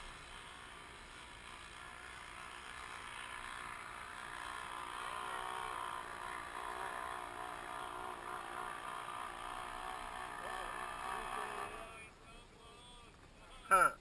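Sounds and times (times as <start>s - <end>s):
faint atv engine running: 0.0s - 14.0s.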